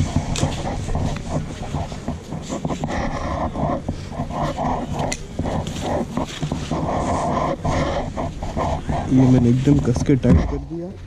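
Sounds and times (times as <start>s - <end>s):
backpack straps rubbing: 0.0s - 10.8s
scratchy microphone rumbling: 0.0s - 11.0s.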